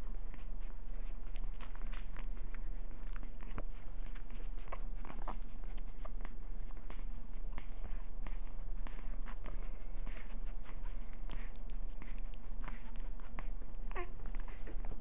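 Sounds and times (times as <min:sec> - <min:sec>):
puppies suckling: 0:00.0 - 0:15.0
steady low hum: 0:00.0 - 0:15.0.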